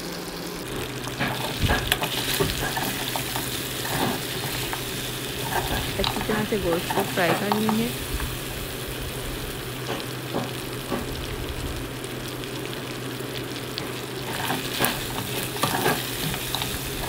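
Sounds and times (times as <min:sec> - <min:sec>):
meat sizzling in a pot: 0:00.0 - 0:17.0.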